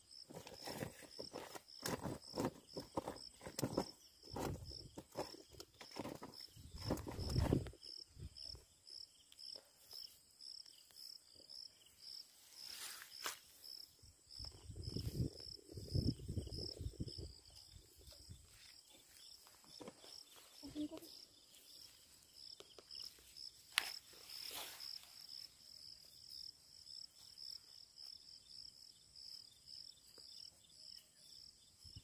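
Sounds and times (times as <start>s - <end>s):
insect chirping: 0.0s - 32.0s.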